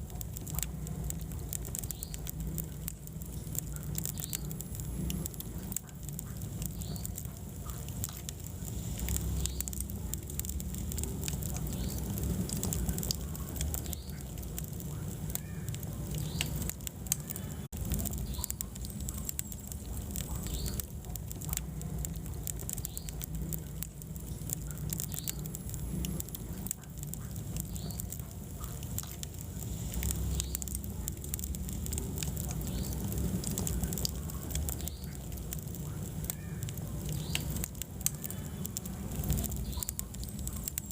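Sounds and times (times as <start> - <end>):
fire rumbling in a fireplace: 0.0 - 40.9
logs crackling and popping: 0.0 - 40.9.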